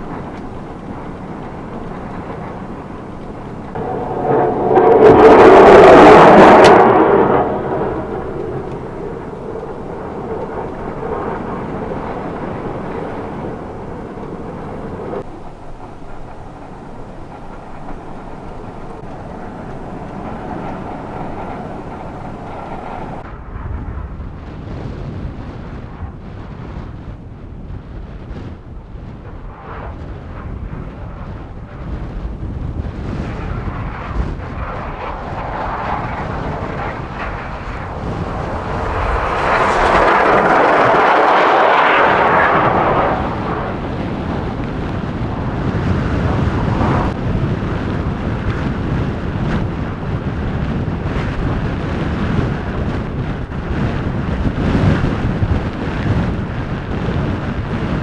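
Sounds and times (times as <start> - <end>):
blizzard wind rumbling: 0.0 - 58.0.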